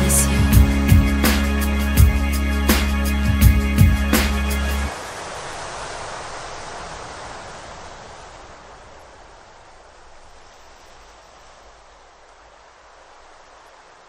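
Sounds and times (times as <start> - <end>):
hiss-like noise wash: 0.0 - 14.0.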